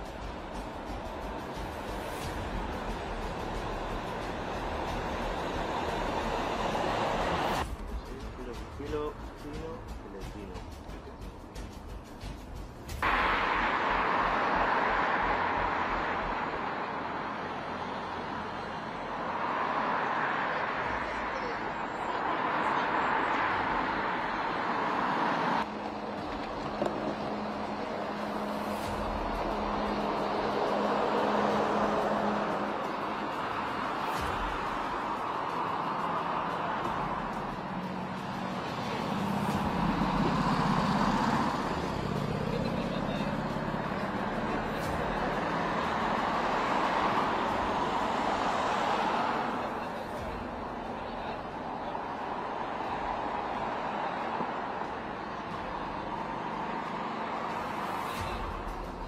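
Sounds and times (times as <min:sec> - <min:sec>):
road traffic noise: 0:00.0 - 0:59.0
vehicle passing: 0:00.0 - 0:59.0.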